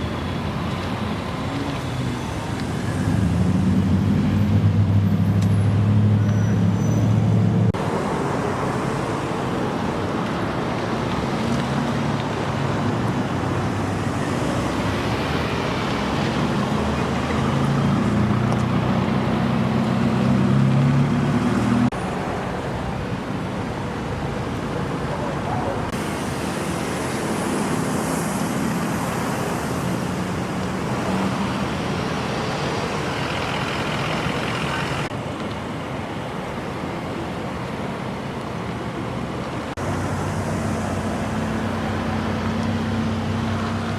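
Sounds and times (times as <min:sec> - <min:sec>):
vehicle engines passing: 0:00.0 - 0:43.9.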